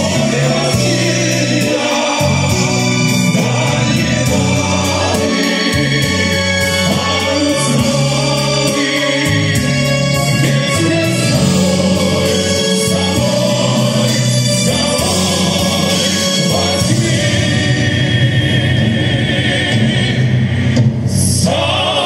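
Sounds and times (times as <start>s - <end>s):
male vocal quartet singing: 0.0s - 22.0s.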